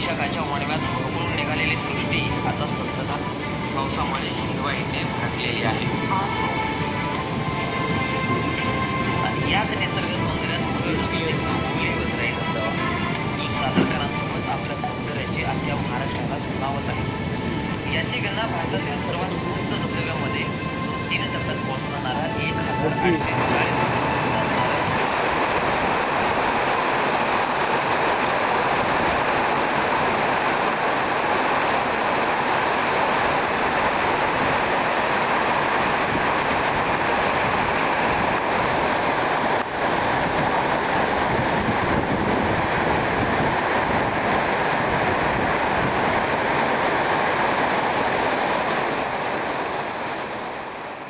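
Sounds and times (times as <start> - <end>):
waterfall roaring: 0.0 - 51.0.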